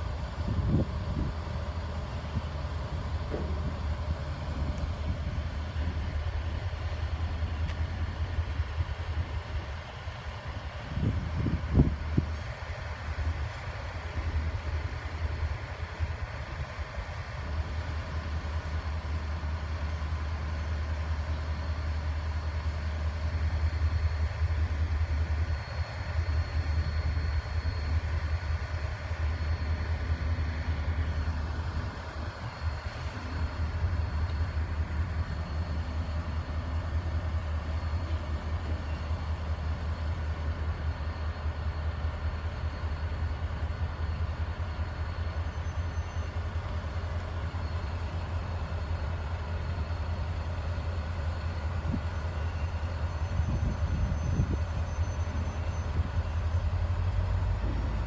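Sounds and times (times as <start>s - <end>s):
faint high whine: 0.0s - 58.0s
rumble of rail flatcars: 0.0s - 58.0s.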